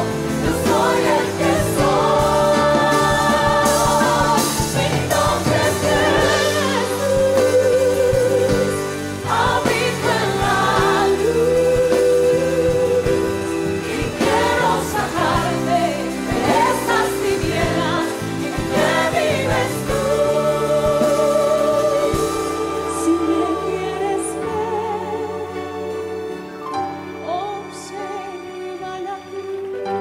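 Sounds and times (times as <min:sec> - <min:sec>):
instrumental backing: 0:00.0 - 0:30.0
worship song singing: 0:00.0 - 0:30.0.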